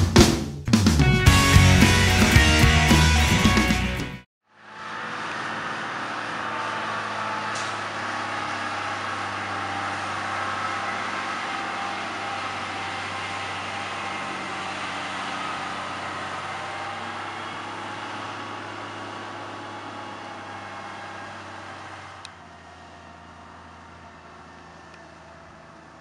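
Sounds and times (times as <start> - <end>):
diesel truck engine idling: 1.3 - 26.0.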